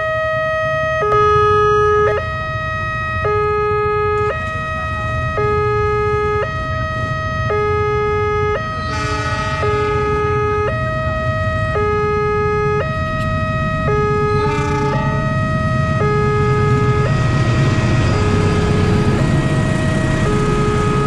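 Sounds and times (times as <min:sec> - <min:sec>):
two-tone level crossing alarm: 0:00.0 - 0:21.0.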